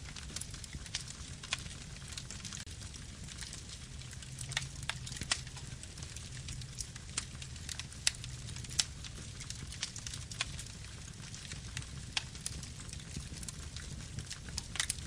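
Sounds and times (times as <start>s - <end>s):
campfire crackling and popping: 0.0s - 15.0s
low rumble of flames: 0.0s - 15.0s.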